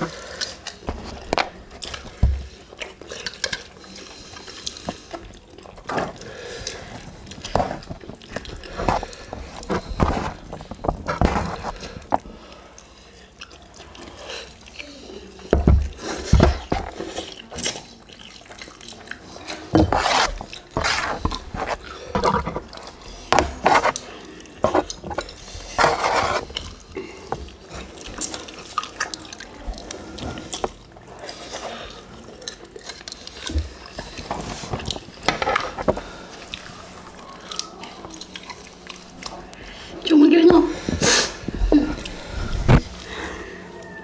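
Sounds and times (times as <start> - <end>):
wet chewing and slurping: 0.0 - 40.1, 40.8 - 44.0.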